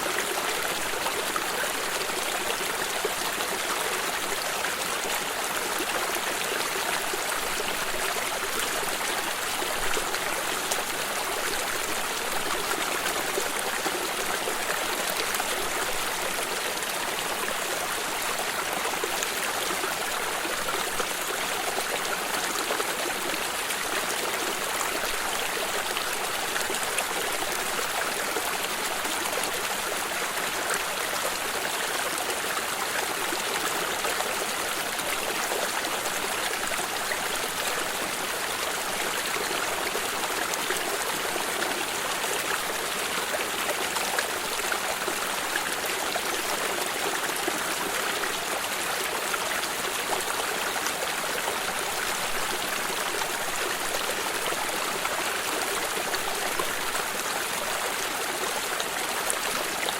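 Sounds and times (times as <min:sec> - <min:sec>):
stream of water trickling: 0:00.0 - 0:59.9.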